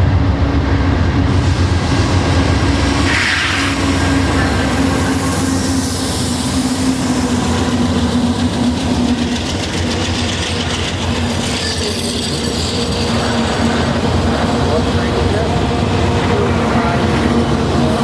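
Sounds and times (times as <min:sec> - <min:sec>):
train wheels rumbling on rail: 0:00.0 - 0:18.0
wheels clacking over rail joints: 0:01.4 - 0:18.0.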